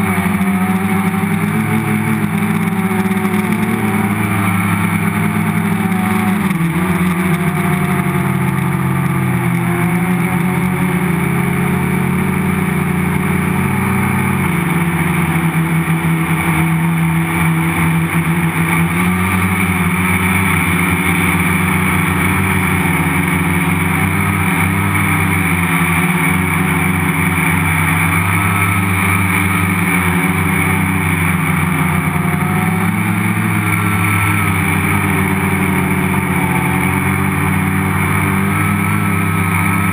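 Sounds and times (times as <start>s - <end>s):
multicopter motors and propellers: 0.0s - 39.9s.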